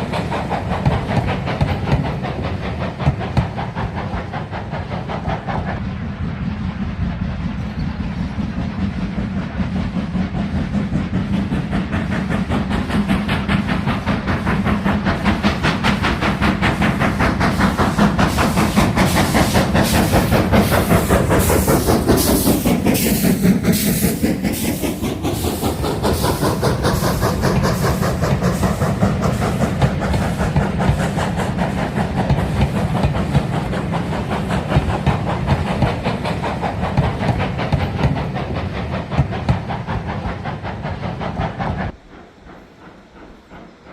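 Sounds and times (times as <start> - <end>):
train wheels clattering: 0.0 - 43.9.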